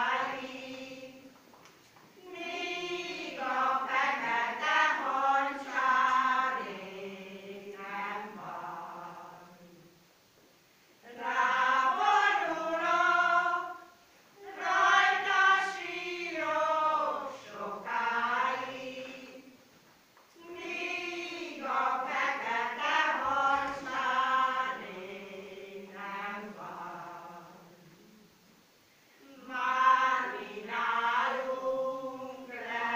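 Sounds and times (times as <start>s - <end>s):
women's choir singing folk song: 0.0s - 1.4s, 2.1s - 10.0s, 11.0s - 19.7s, 20.3s - 28.5s, 29.1s - 32.9s.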